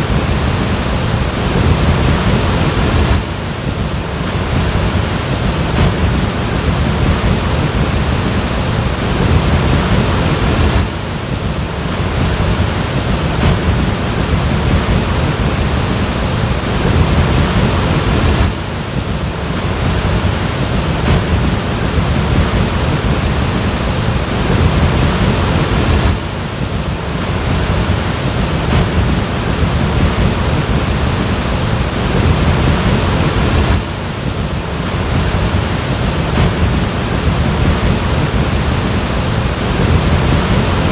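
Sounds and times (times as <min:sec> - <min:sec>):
floodwater rushing: 0:00.0 - 0:40.9
wind noise: 0:00.0 - 0:40.9.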